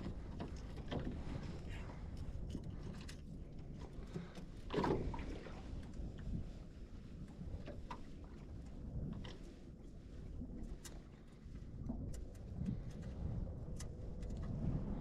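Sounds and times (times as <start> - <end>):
wind and water noise: 0.0 - 15.0.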